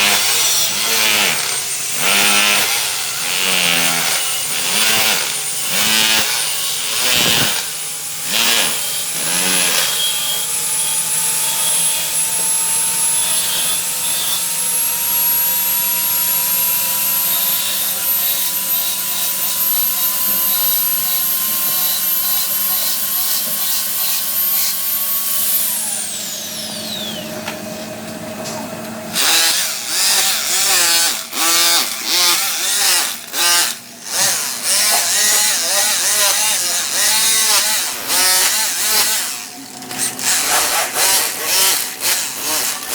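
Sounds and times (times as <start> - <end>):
power tool whining: 0.0 - 42.9.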